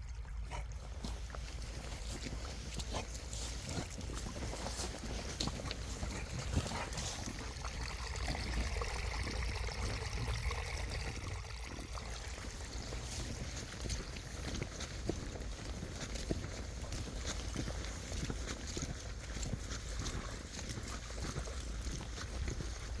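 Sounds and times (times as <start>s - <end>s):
small water splashes: 0.0s - 23.0s
water trickling and flowing: 0.0s - 23.0s.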